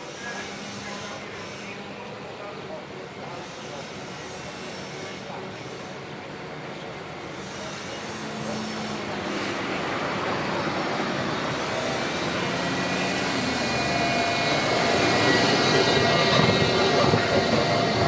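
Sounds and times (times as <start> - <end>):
tram running noise: 0.0 - 18.0.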